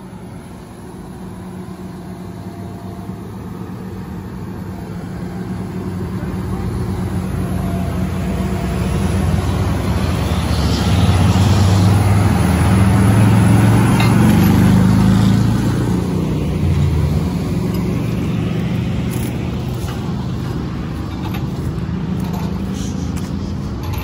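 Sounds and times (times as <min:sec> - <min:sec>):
excavator diesel engine drone: 0:00.0 - 0:24.0.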